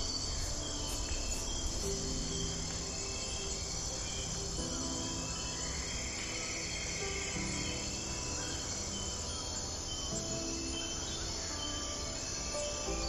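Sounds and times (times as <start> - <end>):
insect chorus: 0.0 - 13.0
soft music of held notes: 0.0 - 13.0.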